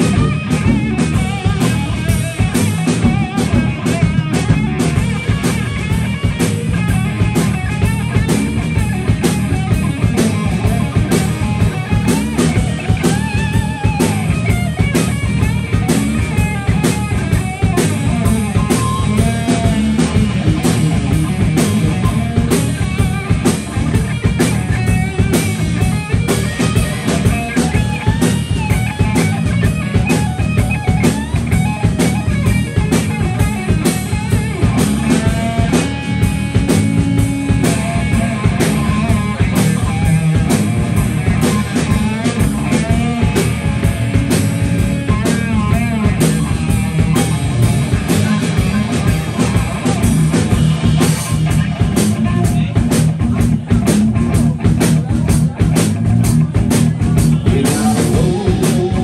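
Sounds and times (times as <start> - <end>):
bass guitar: 0.0 - 59.0
drum kit steady beat: 0.0 - 59.0
electric guitar: 0.0 - 59.0.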